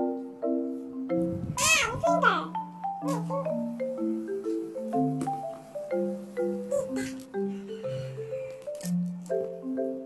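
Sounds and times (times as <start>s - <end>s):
light bouncy background music: 0.0s - 10.0s.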